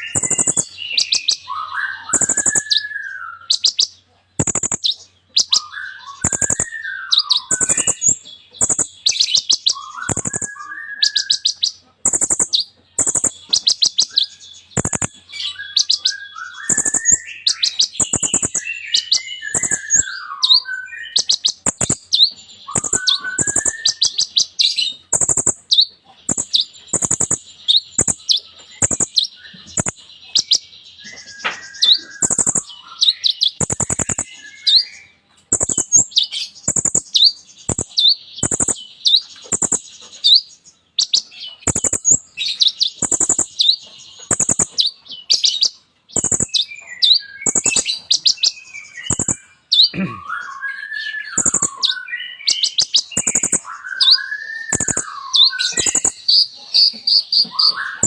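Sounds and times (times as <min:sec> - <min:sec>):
sunbird singing rapid chips and trills: 0:00.0 - 0:58.0.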